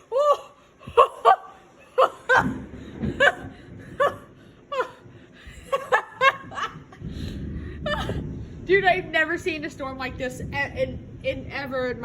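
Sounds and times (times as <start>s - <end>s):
heavy rain: 0.0s - 12.0s
storm wind: 0.0s - 12.0s.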